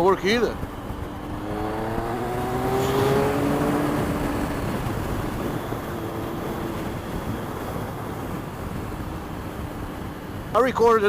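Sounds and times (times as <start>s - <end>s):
steady noisy rush: 0.0s - 11.0s
vehicle engine accelerating: 0.6s - 10.1s.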